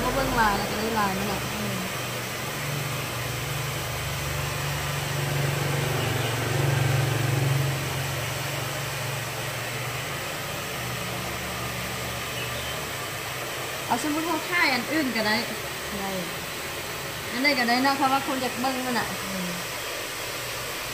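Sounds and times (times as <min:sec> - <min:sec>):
hiss: 0:00.0 - 0:20.9
low mechanical hum: 0:00.0 - 0:20.9.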